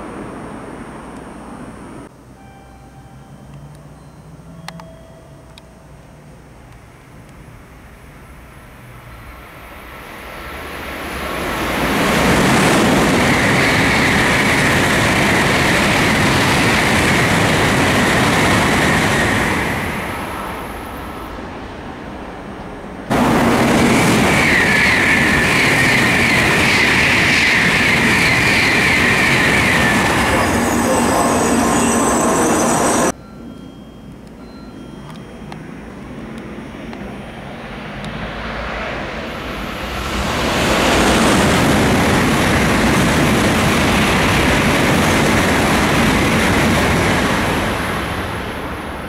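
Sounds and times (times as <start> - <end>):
high-speed train passing: 0.0 - 49.0
train high whine: 0.0 - 49.0.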